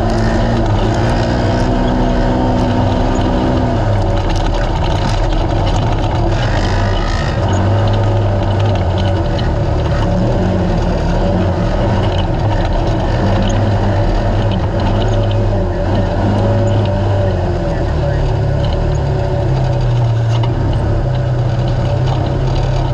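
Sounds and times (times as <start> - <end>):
loud engine running: 0.0 - 22.9.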